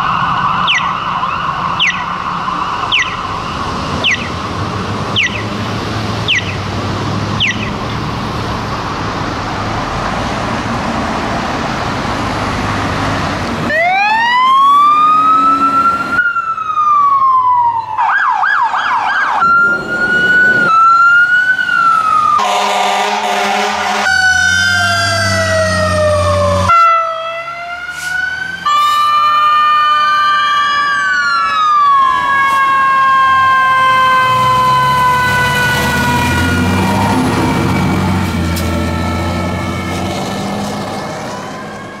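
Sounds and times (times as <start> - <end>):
emergency vehicle sirens: 0.0 - 42.0
road traffic noise: 0.0 - 42.0.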